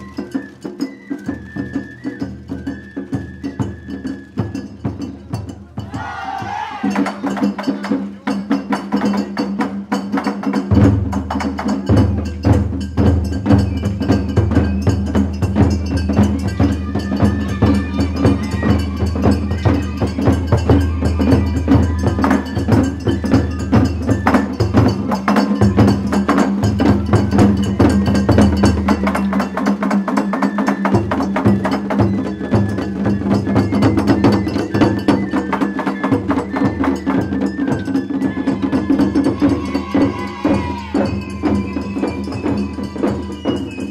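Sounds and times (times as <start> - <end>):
small percussion clatter: 0.0 - 43.9
deep drum beats: 1.4 - 43.9.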